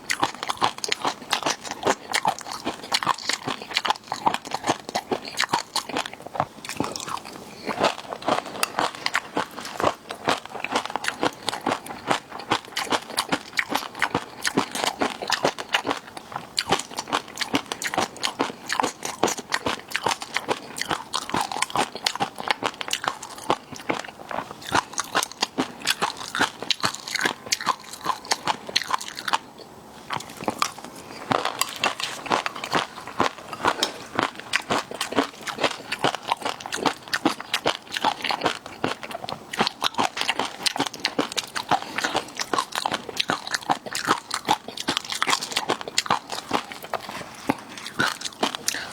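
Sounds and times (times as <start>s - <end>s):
crunching and wet chewing: 0.0s - 48.9s.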